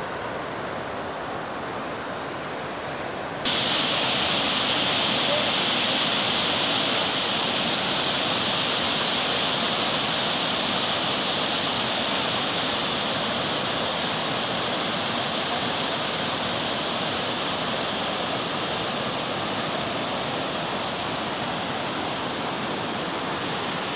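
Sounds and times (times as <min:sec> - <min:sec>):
floodwater rushing: 0:03.1 - 0:23.9.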